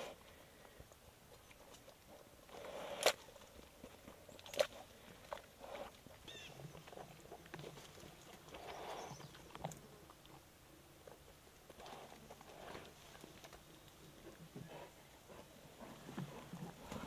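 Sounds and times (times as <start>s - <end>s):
bear chewing: 0.0s - 17.0s.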